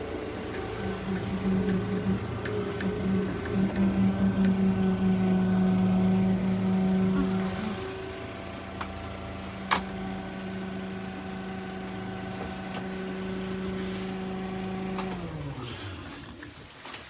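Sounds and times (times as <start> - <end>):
tractor diesel engine running: 0.0 - 16.2.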